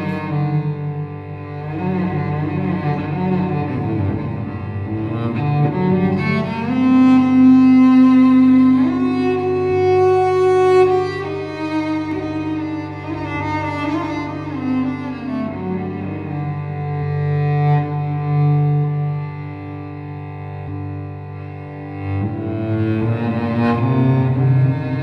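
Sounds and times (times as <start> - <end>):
bowed cello playing held notes: 0.0 - 25.0.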